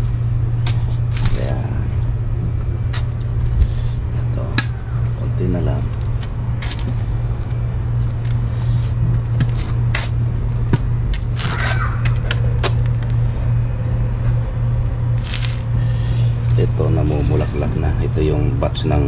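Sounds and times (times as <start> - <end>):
steady low machine hum: 0.0 - 19.0.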